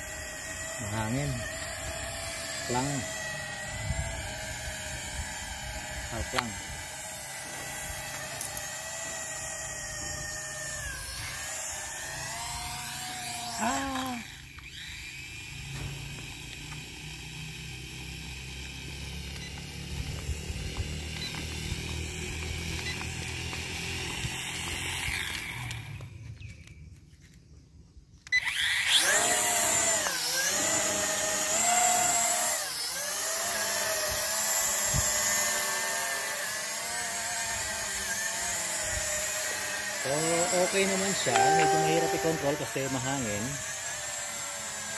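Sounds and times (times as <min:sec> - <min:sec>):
quadcopter propeller motors whining: 0:00.0 - 0:44.9.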